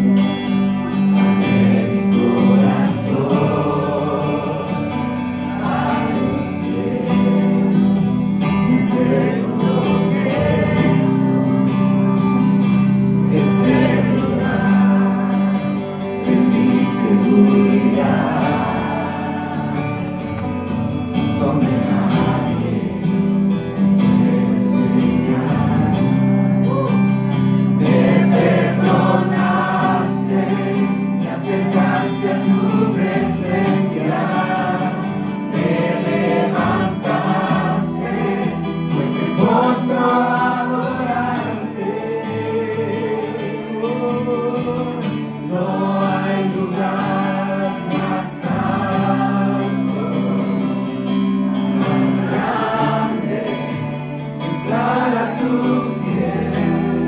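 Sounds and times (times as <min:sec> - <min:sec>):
congregation singing: 0:00.0 - 0:57.0
worship band playing: 0:00.0 - 0:57.0.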